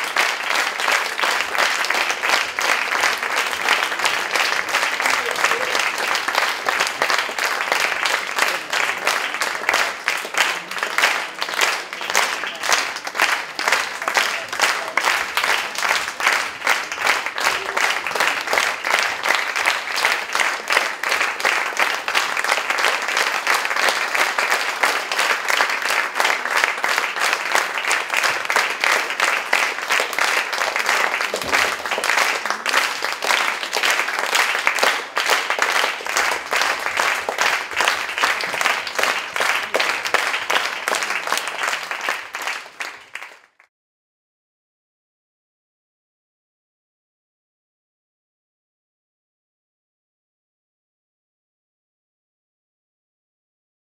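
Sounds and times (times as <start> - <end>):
audience applauding: 0.0 - 43.7.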